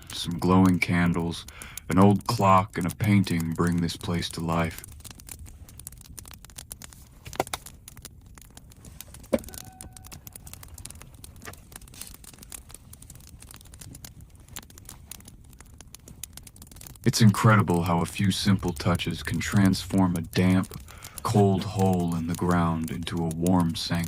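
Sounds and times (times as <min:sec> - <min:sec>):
light clicks and taps: 0:00.0 - 0:24.0.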